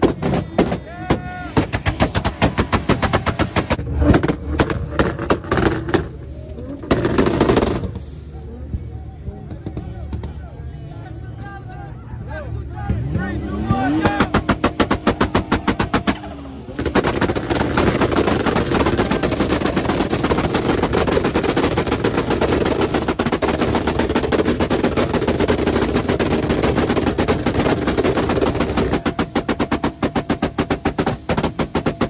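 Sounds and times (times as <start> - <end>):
exhaust bangs and pops: 0.0 - 8.1, 12.9 - 32.0
car engine revving: 0.0 - 8.6, 12.8 - 32.0.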